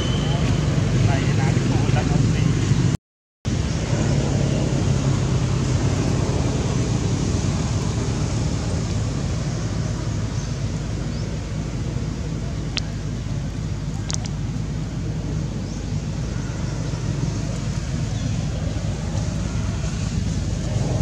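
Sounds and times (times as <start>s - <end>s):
low rumbling: 0.0s - 21.0s.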